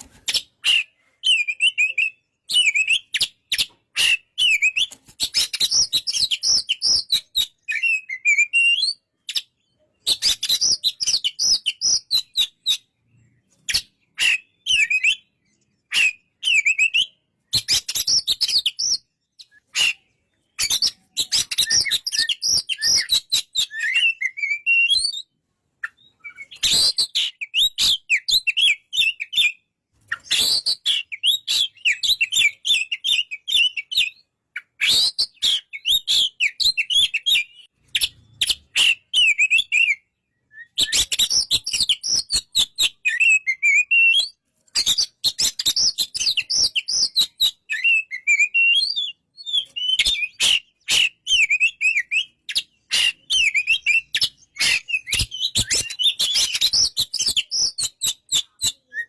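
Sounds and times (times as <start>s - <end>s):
bird singing chirps and clicks: 0.0s - 59.0s.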